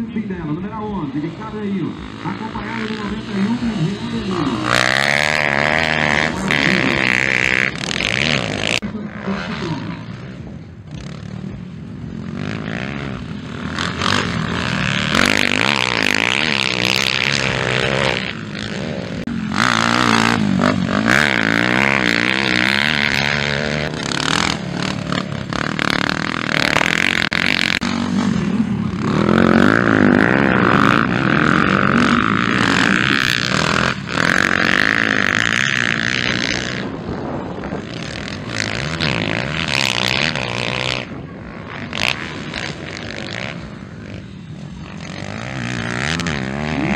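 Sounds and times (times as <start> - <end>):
motocross bikes revving past: 0.0 - 46.9.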